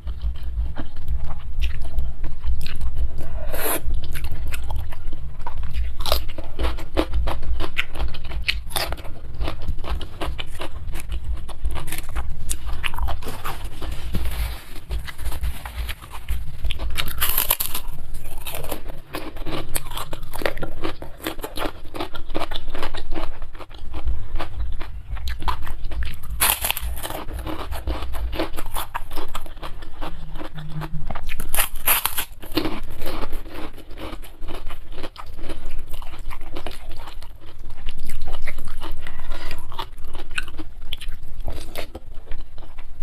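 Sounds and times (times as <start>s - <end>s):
person chewing crunchy food: 0.0s - 43.0s.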